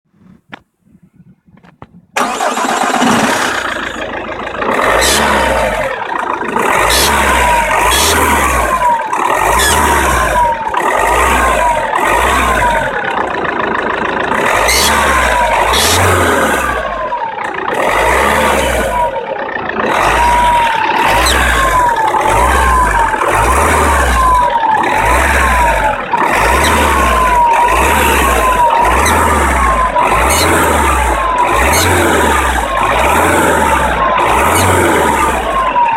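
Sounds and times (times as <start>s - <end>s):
diesel engine running: 1.6s - 35.9s.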